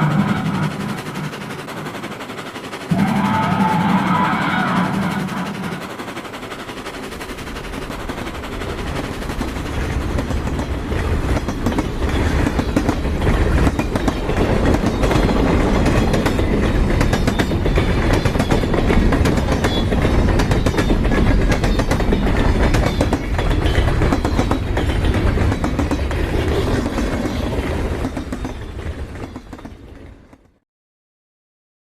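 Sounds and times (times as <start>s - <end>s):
fast rail clatter: 0.0s - 30.6s
heavy train rumble: 0.0s - 30.6s.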